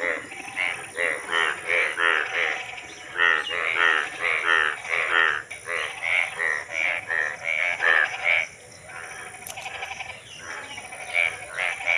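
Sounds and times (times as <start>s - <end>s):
frogs croaking: 0.0s - 11.9s.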